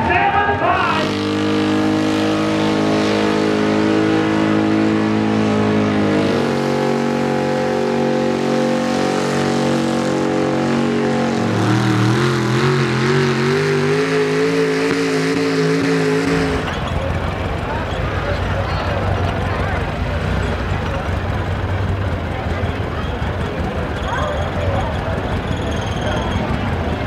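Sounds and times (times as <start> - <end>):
truck engines at full throttle: 0.0 - 27.0.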